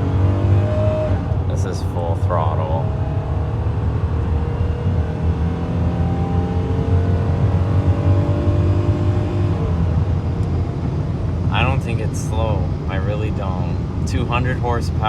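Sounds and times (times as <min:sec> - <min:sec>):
car engine accelerating at full throttle: 0:00.0 - 0:15.0.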